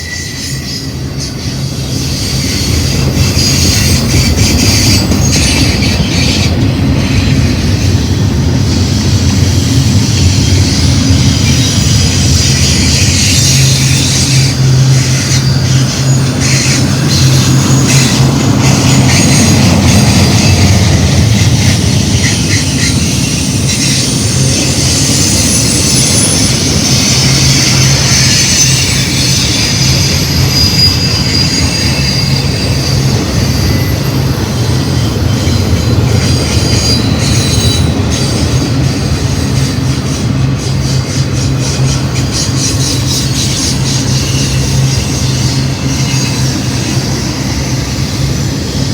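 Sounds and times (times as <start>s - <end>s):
freight train rumbling past: 0.0s - 48.9s
high-pitched wheel squeal: 0.0s - 48.9s
wheels clicking over rail joints: 1.1s - 48.9s.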